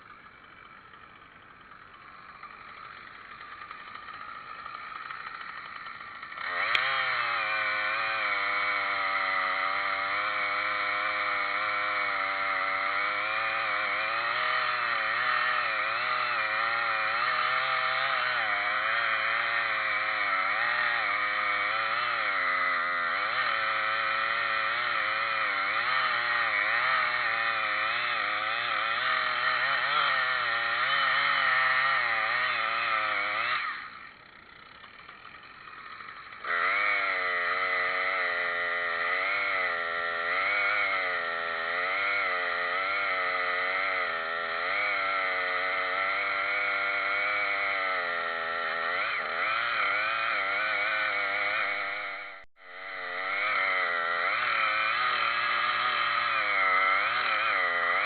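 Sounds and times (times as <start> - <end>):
chainsaw running: 0.0 - 58.0.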